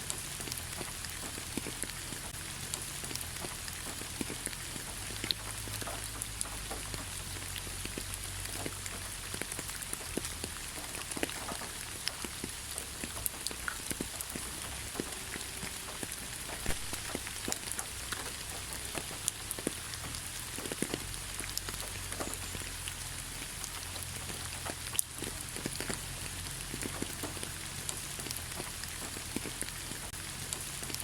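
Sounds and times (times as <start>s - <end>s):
rain hiss: 0.0s - 31.0s
raindrops pattering: 0.0s - 31.0s.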